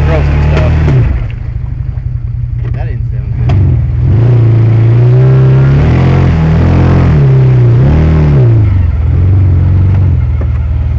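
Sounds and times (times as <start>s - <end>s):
tires churning mud: 0.0s - 10.9s
utv engine revving: 0.0s - 10.9s.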